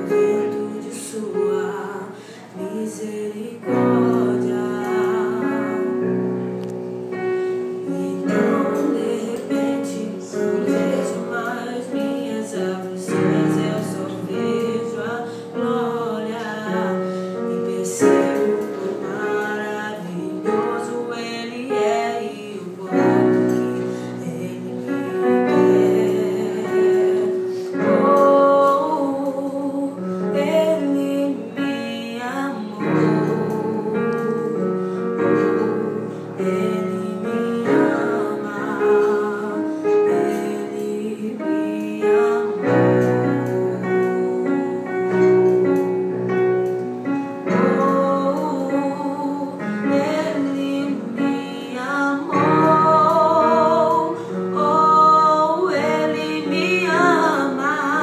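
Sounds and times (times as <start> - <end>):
piano accompaniment: 0.0 - 58.0.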